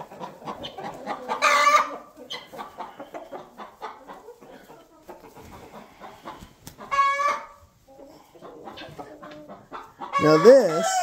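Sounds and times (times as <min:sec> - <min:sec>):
chickens clucking softly: 0:00.0 - 0:11.0
chicken squawk: 0:00.1 - 0:04.6, 0:05.7 - 0:07.6, 0:08.4 - 0:11.0.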